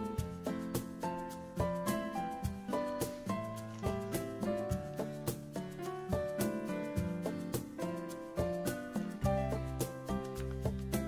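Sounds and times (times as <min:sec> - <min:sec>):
light instrumental music: 0:00.0 - 0:11.0.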